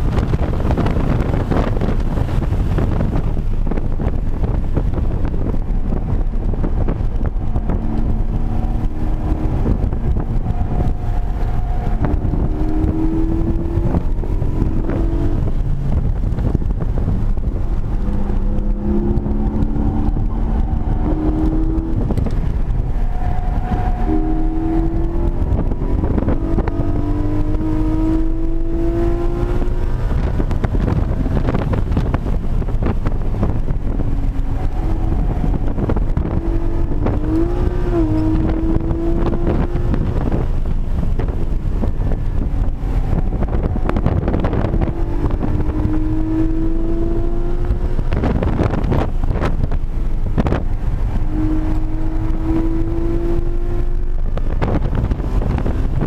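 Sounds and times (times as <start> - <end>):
car engine accelerating in cabin: 0.0 - 56.0
road and wind noise: 0.0 - 56.0.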